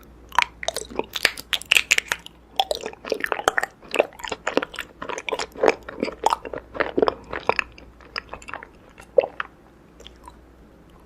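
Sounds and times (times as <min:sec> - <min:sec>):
chewing honeycomb: 0:00.3 - 0:11.0.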